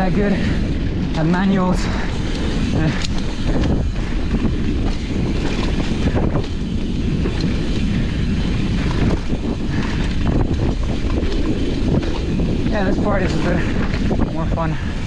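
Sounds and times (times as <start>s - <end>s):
wind on microphone: 0.0s - 15.0s
bike knocks and rattles: 0.8s - 14.9s.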